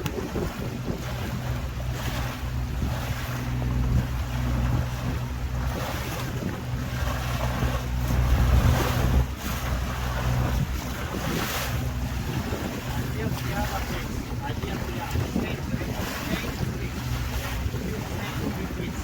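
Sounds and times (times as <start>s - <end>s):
boat engine running: 0.0s - 19.0s
water rushing past hull: 0.0s - 19.0s
wind buffeting microphone: 0.0s - 19.0s.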